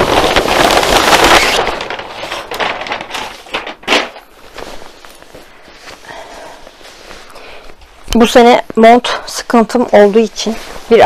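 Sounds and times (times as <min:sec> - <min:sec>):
paper bag crackling and rustling: 0:00.0 - 0:08.4, 0:09.0 - 0:11.0.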